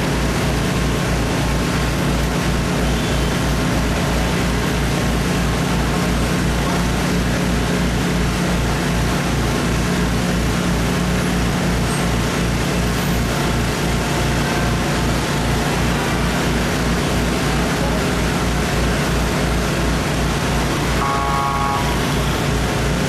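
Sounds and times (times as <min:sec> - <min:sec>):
engine running with low throb: 0:00.0 - 0:23.0.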